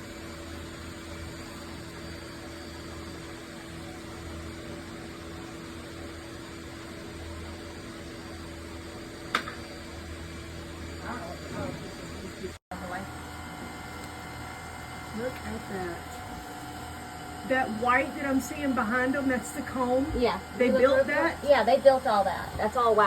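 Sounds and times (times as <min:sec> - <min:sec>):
vacuum running: 0:00.0 - 0:23.0.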